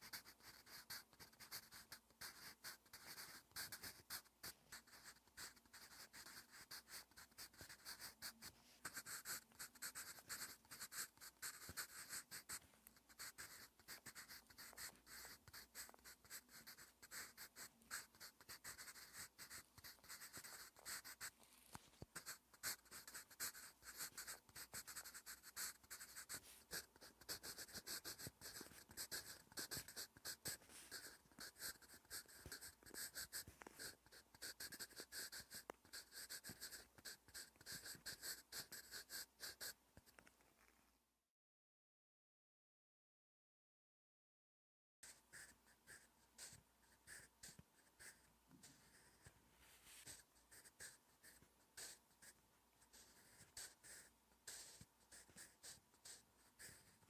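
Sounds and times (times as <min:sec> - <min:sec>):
pencil scratching on paper: 0:00.0 - 0:40.2, 0:45.0 - 0:57.0.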